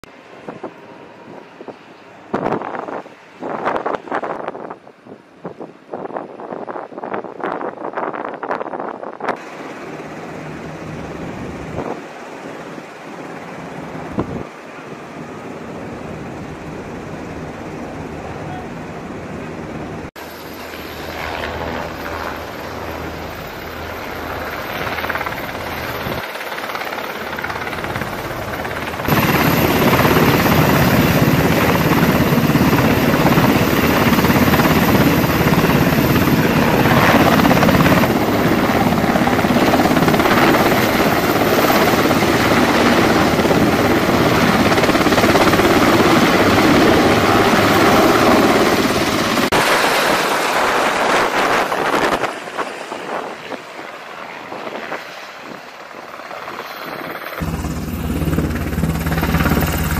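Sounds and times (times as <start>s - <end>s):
helicopter engines and rotor: 0.1s - 59.9s.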